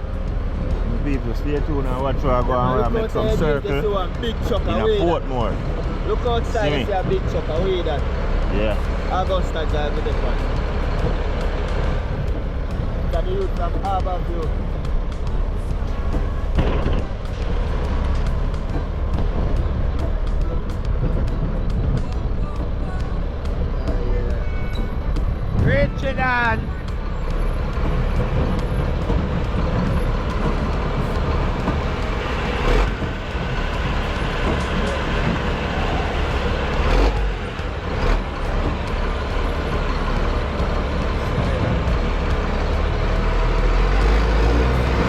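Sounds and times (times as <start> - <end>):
music with ticking beat: 0.0 - 45.0
vehicle engine low rumble: 0.0 - 45.0.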